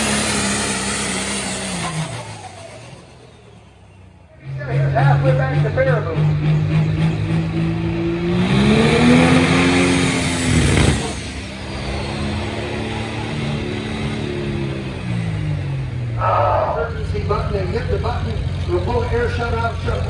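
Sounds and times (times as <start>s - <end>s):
diesel tractor engine under load: 0.0s - 20.0s.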